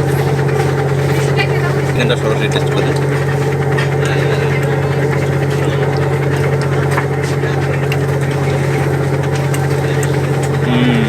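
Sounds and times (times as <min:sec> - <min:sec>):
ship engine humming: 0:00.0 - 0:11.0.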